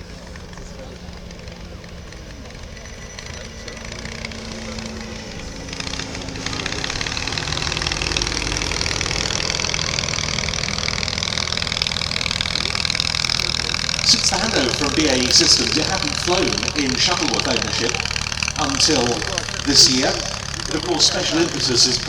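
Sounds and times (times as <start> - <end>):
light aircraft engine running: 0.0 - 22.0.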